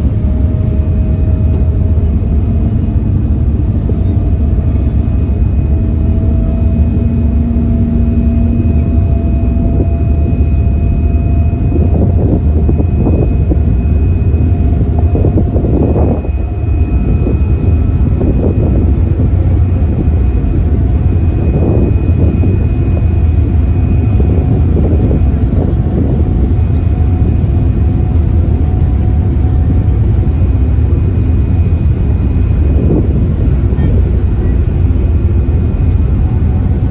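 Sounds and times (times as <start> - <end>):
ferry engine drone: 0.0 - 36.9
high whine: 0.0 - 36.9.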